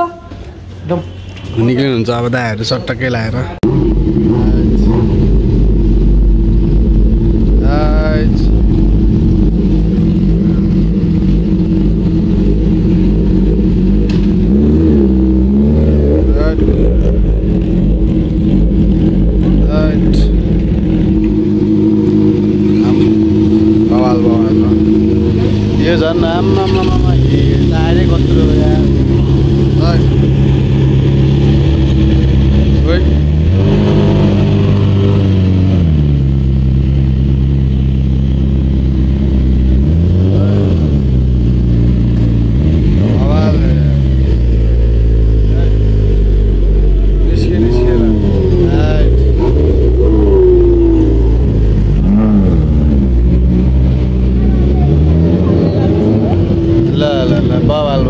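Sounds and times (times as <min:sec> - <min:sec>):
motorcycle engine running: 0:03.6 - 0:58.0.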